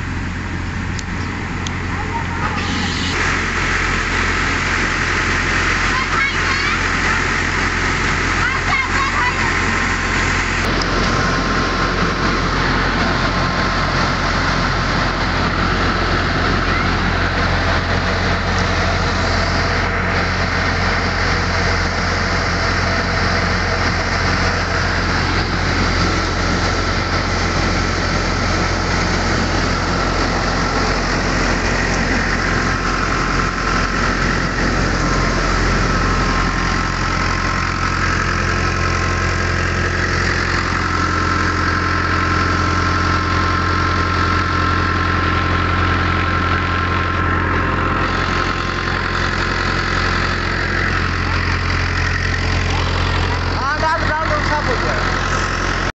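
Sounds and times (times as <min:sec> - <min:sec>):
mill machinery whirring: 0:00.0 - 0:55.9
tractor diesel engine running: 0:00.0 - 0:55.9.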